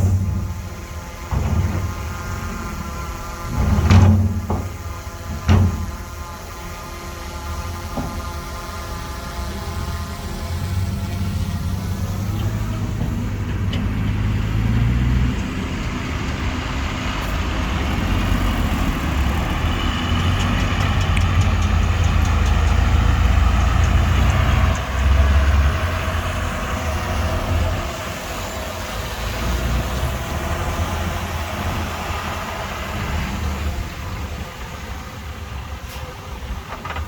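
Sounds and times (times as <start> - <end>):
bulldozer diesel engine under load: 0.0 - 37.0.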